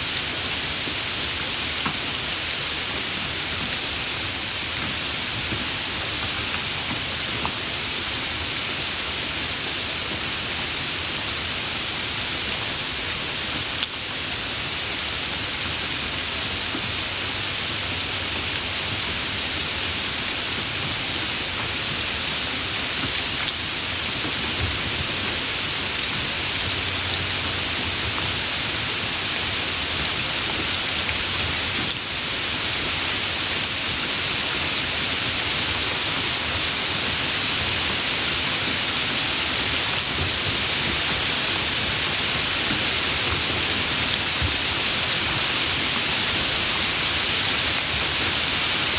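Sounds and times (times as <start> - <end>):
soft rain falling: 0.0 - 48.9.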